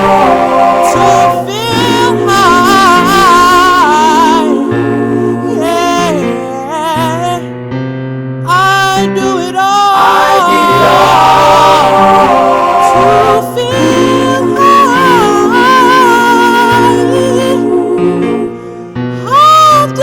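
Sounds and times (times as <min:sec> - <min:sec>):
wordless vocal with vibrato: 0:00.0 - 0:07.6, 0:08.4 - 0:20.0.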